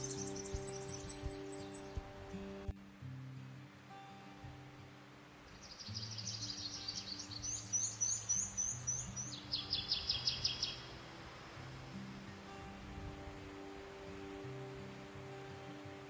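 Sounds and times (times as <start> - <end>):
songbird singing: 0.0 - 2.7, 5.4 - 16.0.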